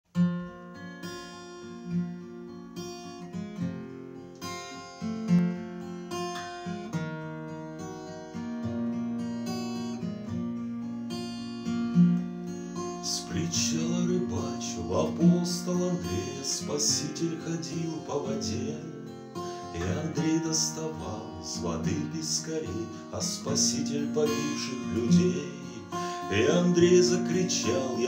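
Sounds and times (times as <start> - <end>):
acoustic guitar playing: 0.1 - 28.0.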